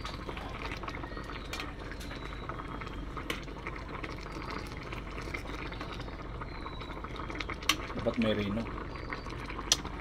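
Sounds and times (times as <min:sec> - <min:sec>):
stew bubbling in pot: 0:00.0 - 0:10.0.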